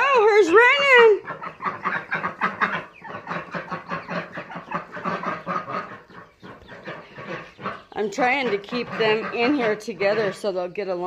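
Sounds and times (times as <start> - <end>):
chickens cheeping and calling: 0.0 - 11.0.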